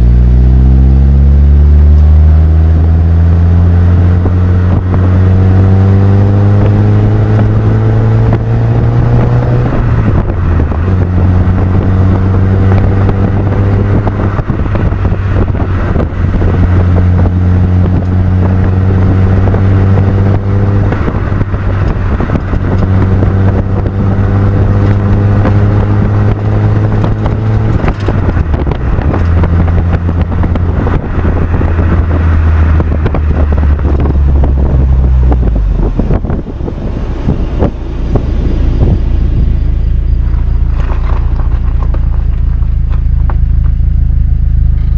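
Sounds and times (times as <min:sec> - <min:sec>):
car engine accelerating: 0:00.0 - 0:44.9
wind noise: 0:00.0 - 0:44.9.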